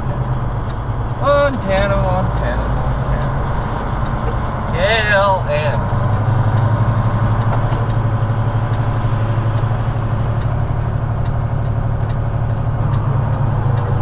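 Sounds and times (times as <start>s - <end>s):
truck diesel engine drone: 0.0s - 14.0s.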